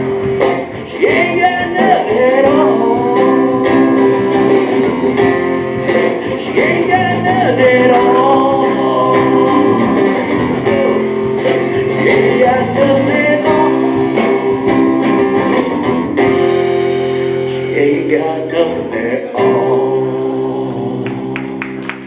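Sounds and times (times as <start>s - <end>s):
live band music: 0.0s - 22.0s.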